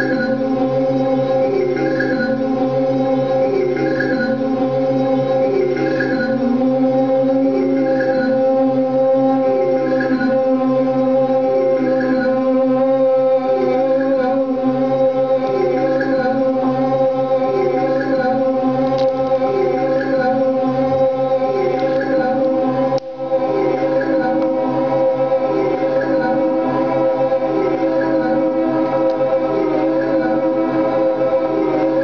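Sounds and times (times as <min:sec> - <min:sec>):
layered held drone tones: 0:00.0 - 0:32.0.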